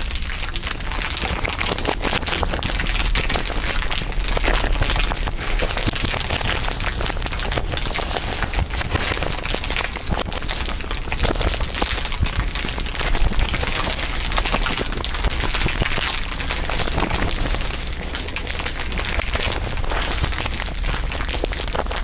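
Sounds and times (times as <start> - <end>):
dense crinkling crackle: 0.0 - 22.0.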